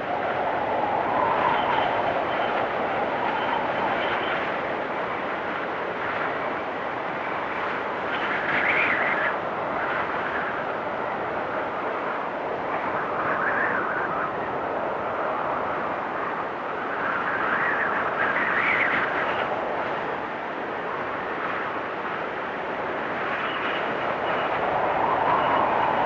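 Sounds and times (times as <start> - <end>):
blizzard wind gusting: 0.0 - 26.0.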